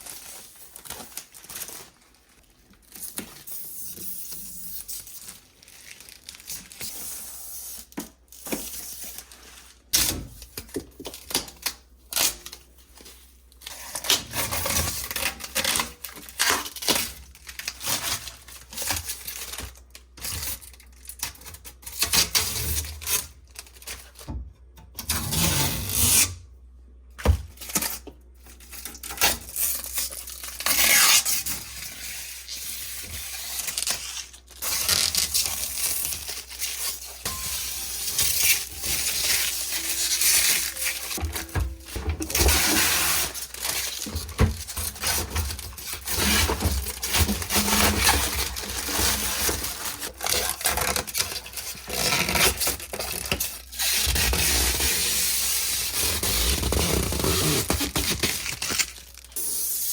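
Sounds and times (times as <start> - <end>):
packaging tearing and rustling: 0.0 - 24.2, 27.5 - 59.9.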